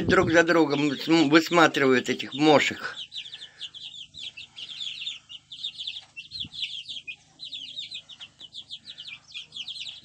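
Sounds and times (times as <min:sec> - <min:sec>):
young chickens peeping: 0:00.0 - 0:10.0.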